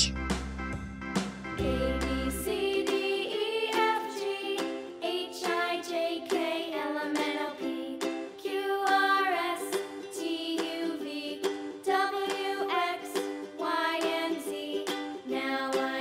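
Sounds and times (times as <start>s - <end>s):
plucked-string children's tune: 1.2s - 16.0s.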